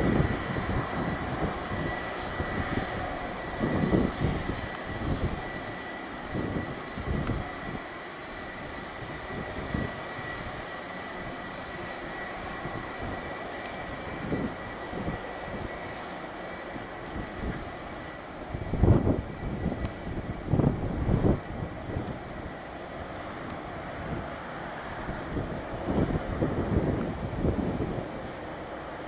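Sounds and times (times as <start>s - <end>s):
jet engines idling: 0.0s - 29.0s
wind buffeting microphone: 0.0s - 29.0s.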